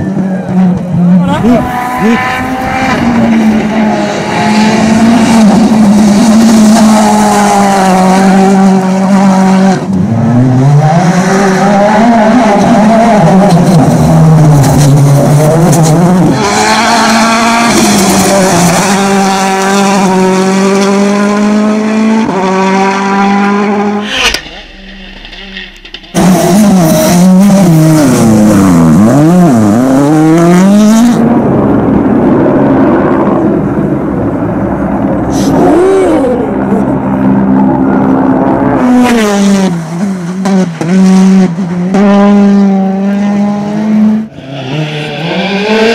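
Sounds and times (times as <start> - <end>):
rally car engine at high revs: 0.0 - 45.9
rally car engine revving: 0.0 - 45.9.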